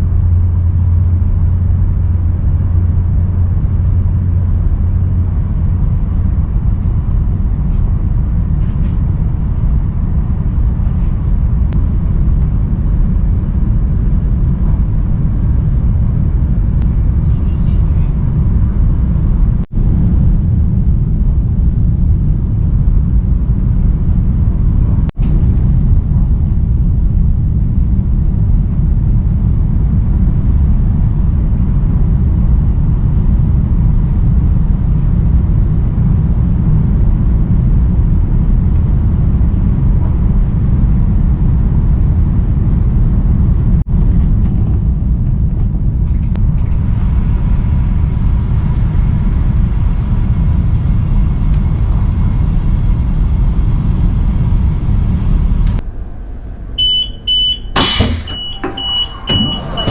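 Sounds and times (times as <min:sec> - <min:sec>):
high-speed train rumble: 0:00.0 - 0:59.9.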